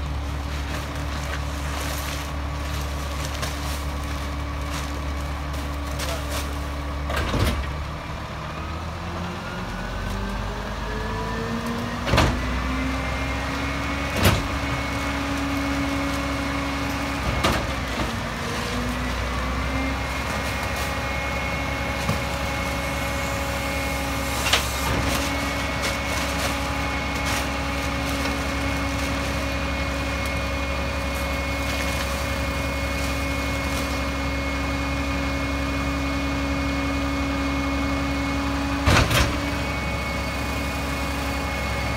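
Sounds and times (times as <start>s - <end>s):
garbage truck diesel engine revving: 3.8s - 41.9s.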